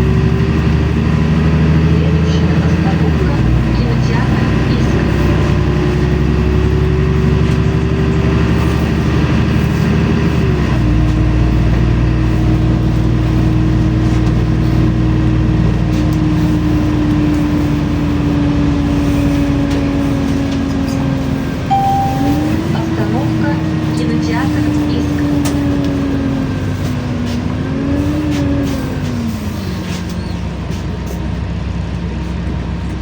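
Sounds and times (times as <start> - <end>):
bus engine rumble and whine: 0.0 - 33.0.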